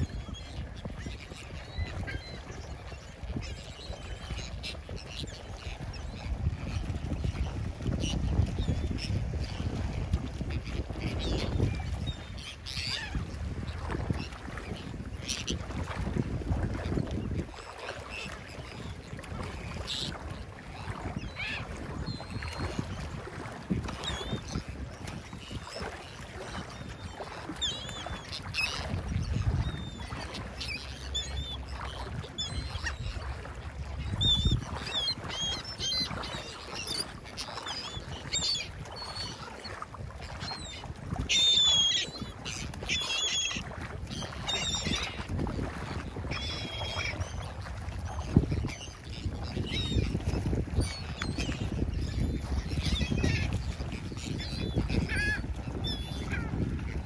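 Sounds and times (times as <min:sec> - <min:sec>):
gulls calling: 0:00.0 - 0:15.7, 0:16.8 - 0:57.0
wind rumble on microphone: 0:00.0 - 0:57.0.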